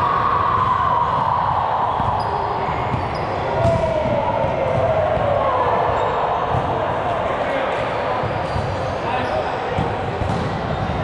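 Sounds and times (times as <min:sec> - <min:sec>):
murmur of voices: 0:01.0 - 0:11.0.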